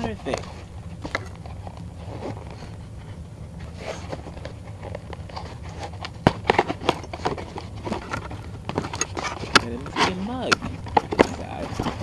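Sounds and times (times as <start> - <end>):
cardboard packaging taps and scrapes: 0.0 - 2.8, 3.6 - 12.0
steady low hum: 0.0 - 12.0.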